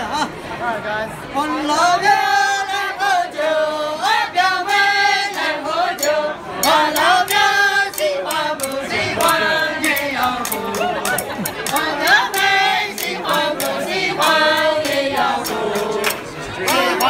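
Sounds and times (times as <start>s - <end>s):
group of people singing: 1.4s - 17.0s.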